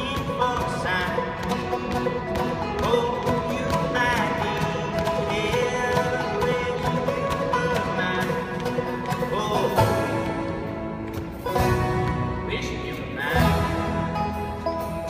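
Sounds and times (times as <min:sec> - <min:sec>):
drum kit beat: 0:00.0 - 0:12.6, 0:13.2 - 0:15.0
acoustic guitar: 0:00.0 - 0:15.0
banjo: 0:00.0 - 0:15.0
upright bass: 0:00.0 - 0:15.0.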